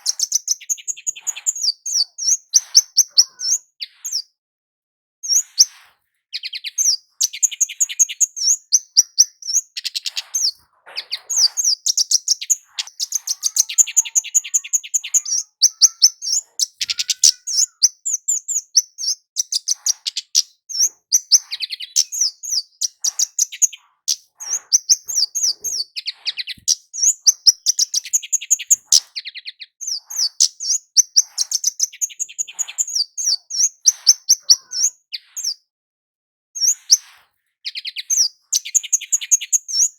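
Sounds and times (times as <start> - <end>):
bird high thin chirps: 0.0 - 4.4, 5.2 - 35.6, 36.6 - 39.9.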